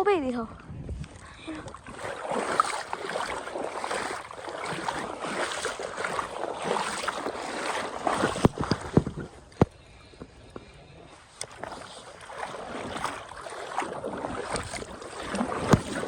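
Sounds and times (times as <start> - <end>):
water splashing and sloshing: 0.5 - 16.0.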